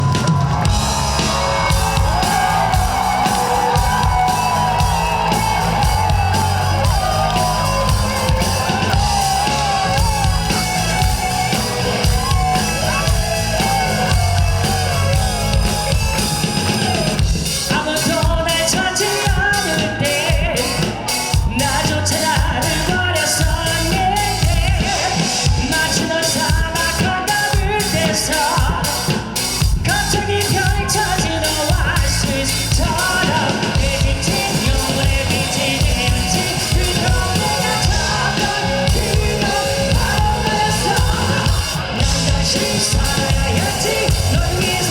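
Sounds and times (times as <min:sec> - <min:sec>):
bending lead guitar melody: 0:00.0 - 0:22.8, 0:31.8 - 0:44.9
rock band playing: 0:00.0 - 0:44.9.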